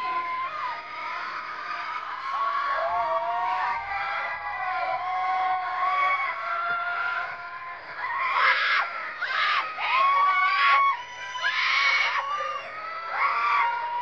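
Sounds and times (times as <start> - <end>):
audience screaming and cheering: 0.0 - 14.0
high held cries: 0.0 - 14.0.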